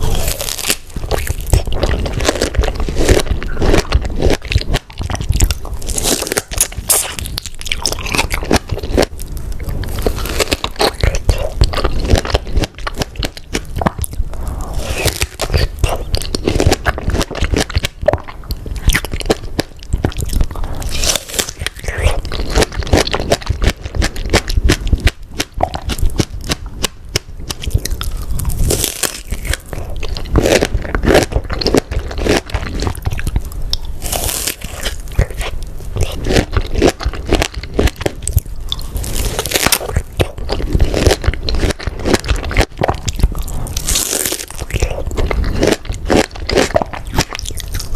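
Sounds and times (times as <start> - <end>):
chewing strawberries: 0.0 - 47.9.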